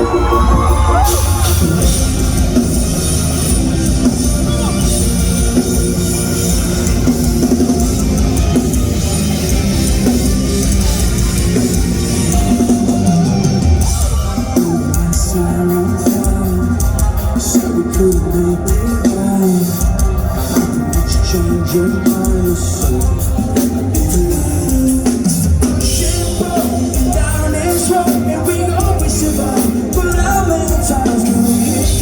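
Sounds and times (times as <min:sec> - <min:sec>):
live rock band: 0:00.0 - 0:32.0.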